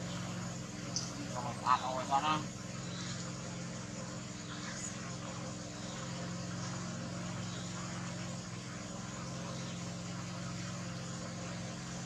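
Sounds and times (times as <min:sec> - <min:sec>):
constant hiss: 0:00.0 - 0:12.0
low droning hum: 0:00.0 - 0:12.0.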